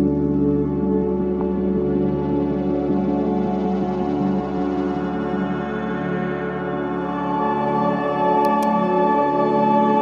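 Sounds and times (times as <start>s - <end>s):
ambient music sustained tones: 0.0s - 10.0s.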